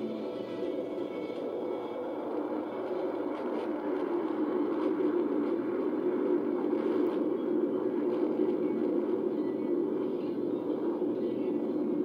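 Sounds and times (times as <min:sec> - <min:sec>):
fighter jet engines rumbling: 0:00.0 - 0:12.0.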